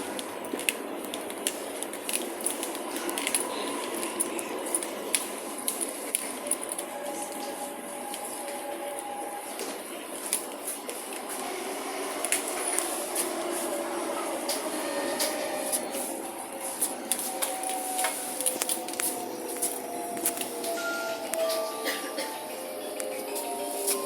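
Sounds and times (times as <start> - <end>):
train running noise: 0.0 - 24.0
traction motors whining: 0.5 - 24.0.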